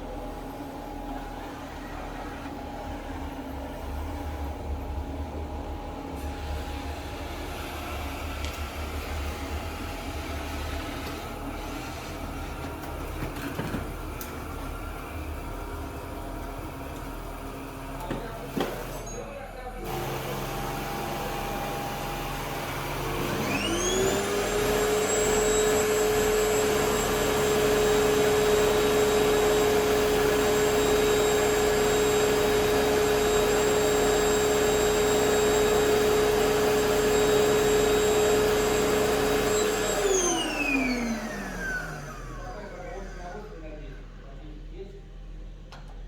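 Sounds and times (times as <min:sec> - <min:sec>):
vacuum cleaner motor whining: 0:00.0 - 0:43.8.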